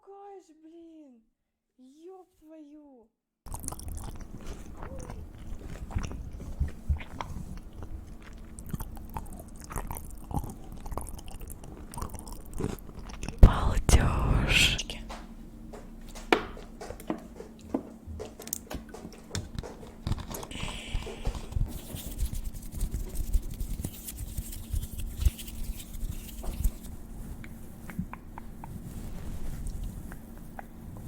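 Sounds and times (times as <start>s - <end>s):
faint low hum: 3.5s - 31.0s.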